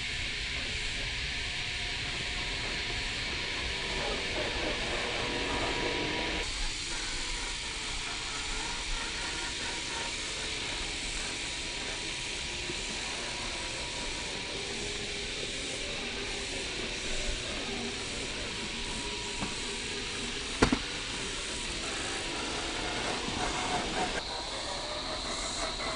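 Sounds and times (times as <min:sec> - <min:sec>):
steady hiss: 0:00.0 - 0:25.9.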